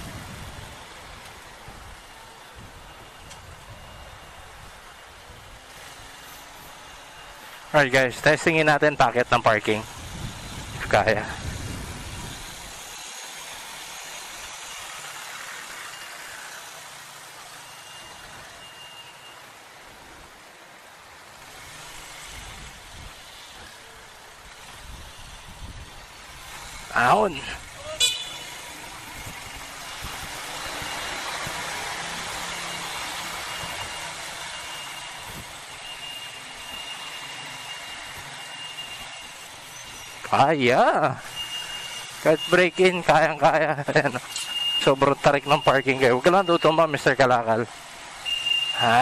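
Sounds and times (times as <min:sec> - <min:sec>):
wind and road hiss: 0:00.0 - 0:49.0.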